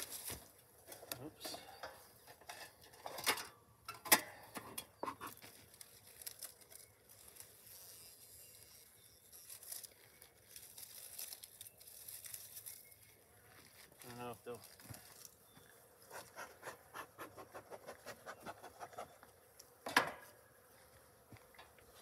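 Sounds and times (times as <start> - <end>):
faint rustling and scraping: 0.0 - 22.0.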